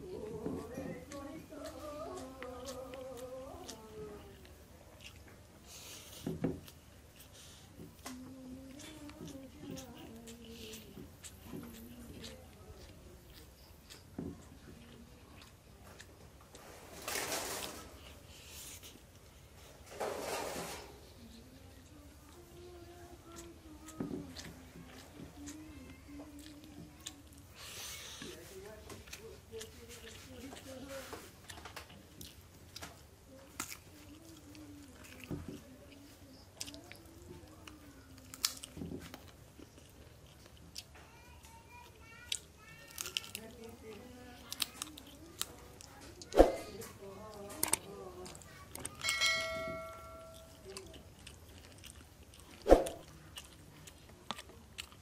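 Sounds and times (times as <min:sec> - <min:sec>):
man chewing food: 0:00.0 - 0:55.0
person eating: 0:00.0 - 0:55.0.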